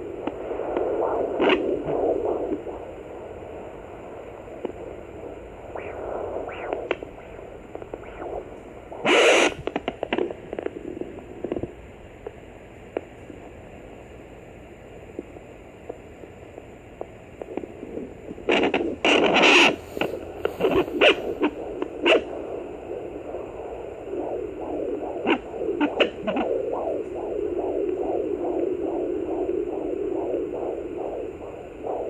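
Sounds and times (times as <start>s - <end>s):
doppler static hiss: 0.0s - 32.0s.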